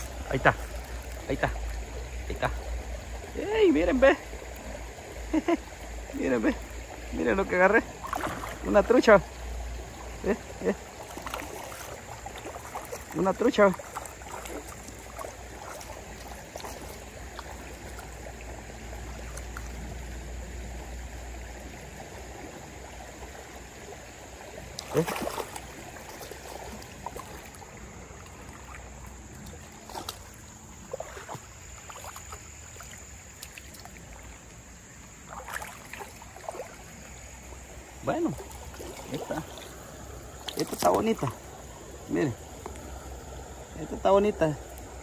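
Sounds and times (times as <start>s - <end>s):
creek water trickling: 0.0s - 45.0s.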